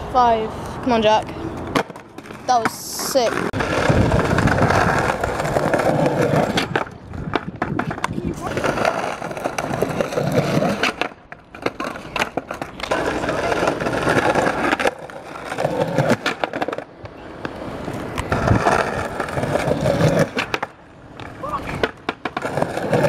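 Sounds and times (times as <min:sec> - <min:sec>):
skateboard wheels rolling on concrete: 0:00.0 - 0:23.0
skateboard clacks: 0:01.0 - 0:23.0.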